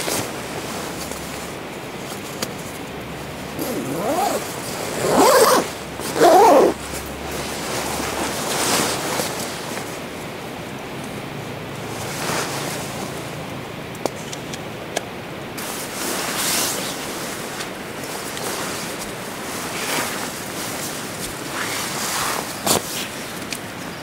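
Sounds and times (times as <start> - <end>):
wind through leaves and trees: 0.0 - 24.0.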